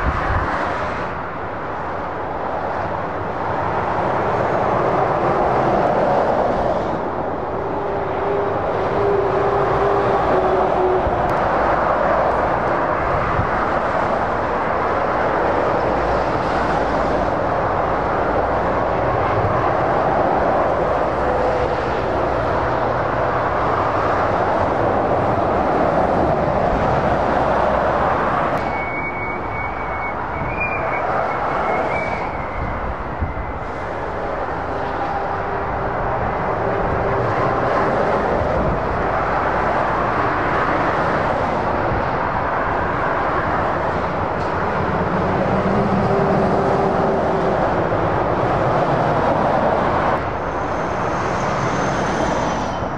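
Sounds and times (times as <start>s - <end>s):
motorway traffic passing: 0.0s - 52.9s.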